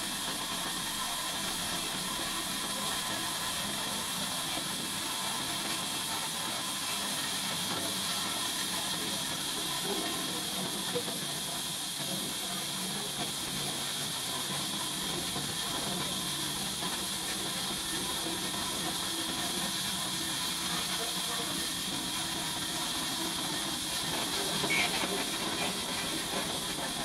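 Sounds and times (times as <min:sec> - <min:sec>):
sawmill machinery hiss: 0:00.0 - 0:27.0.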